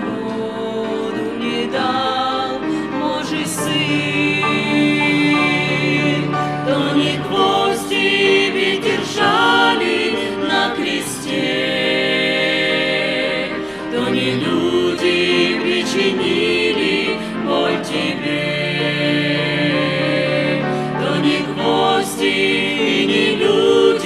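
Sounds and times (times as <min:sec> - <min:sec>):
vocal group singing a hymn: 0:00.0 - 0:24.0.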